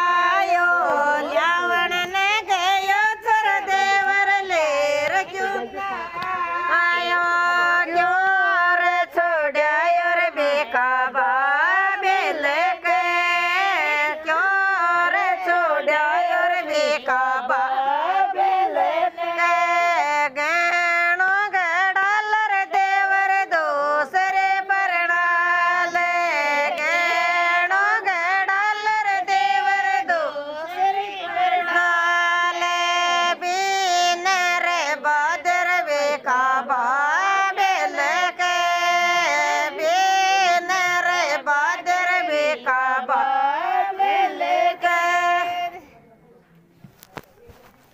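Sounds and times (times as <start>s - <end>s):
women singing folk song: 0.0s - 46.0s.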